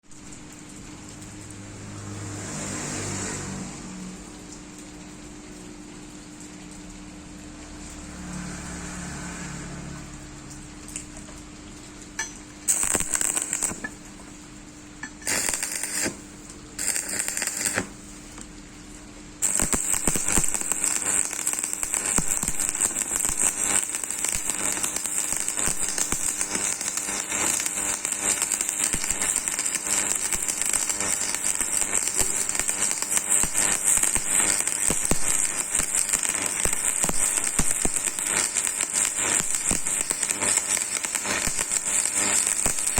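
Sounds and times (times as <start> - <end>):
arc welding crackling sizzle: 0.0 - 42.9.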